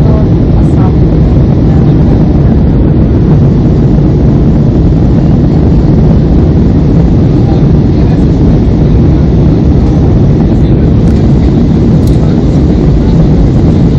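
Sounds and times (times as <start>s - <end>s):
jet engines roaring: 0.0s - 13.9s
rushing air: 0.0s - 13.9s.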